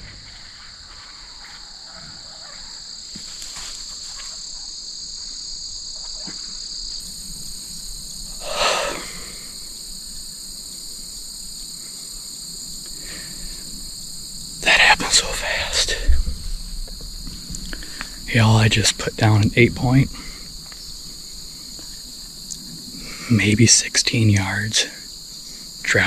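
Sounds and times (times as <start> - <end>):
crickets and insects chirring: 0.0 - 26.0
higher-pitched insect chorus: 0.0 - 26.0.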